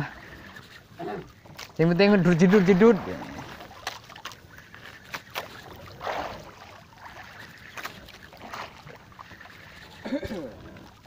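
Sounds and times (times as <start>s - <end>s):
sea water sloshing: 0.0s - 11.0s.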